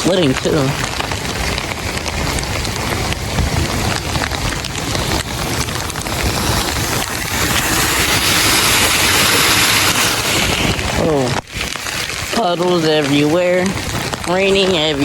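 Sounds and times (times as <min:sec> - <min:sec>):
low rumble: 0:00.0 - 0:12.4
heavy rain pattering on surfaces: 0:00.0 - 0:15.0.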